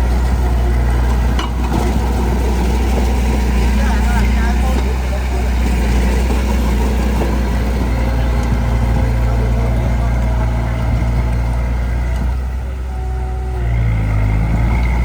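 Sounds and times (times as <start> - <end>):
diesel earthmoving machinery droning: 0.0 - 15.0.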